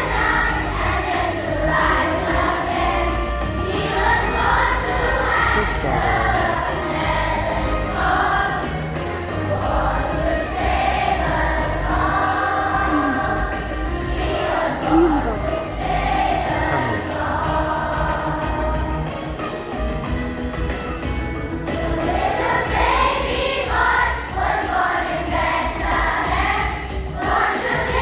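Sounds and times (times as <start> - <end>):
group of voices singing: 0.0 - 19.7, 21.7 - 28.0
musical accompaniment: 0.0 - 28.0.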